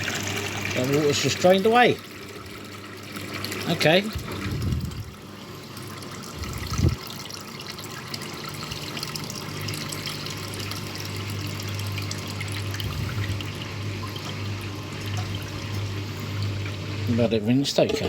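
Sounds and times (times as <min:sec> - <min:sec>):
washing machine hum: 0:00.0 - 0:18.0
water splashing in washing machine: 0:00.0 - 0:18.0.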